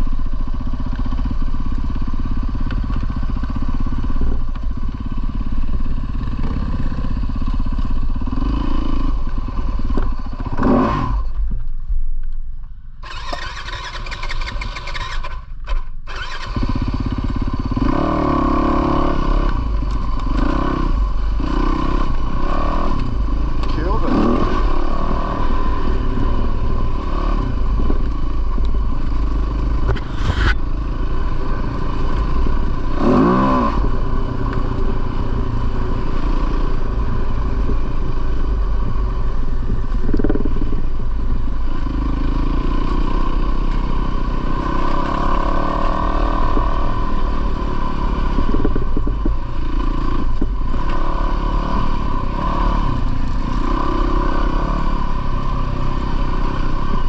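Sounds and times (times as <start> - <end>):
dirt bike engine revving: 5.0 - 11.4, 13.0 - 40.7, 41.8 - 57.0.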